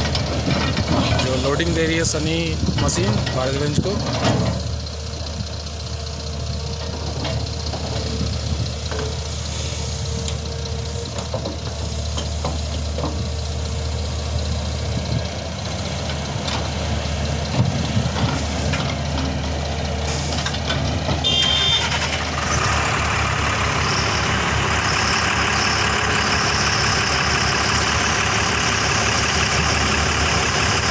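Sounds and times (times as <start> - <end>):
heavy diesel engines running: 0.0 - 30.9.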